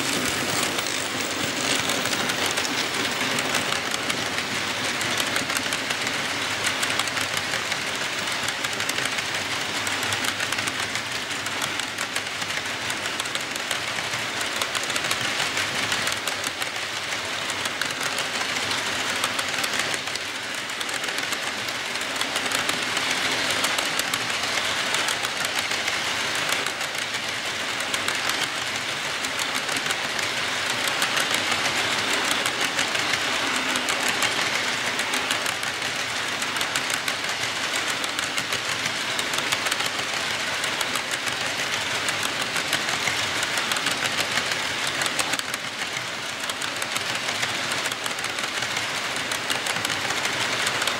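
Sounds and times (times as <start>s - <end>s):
model train wheels clicking on track: 0.0s - 50.9s.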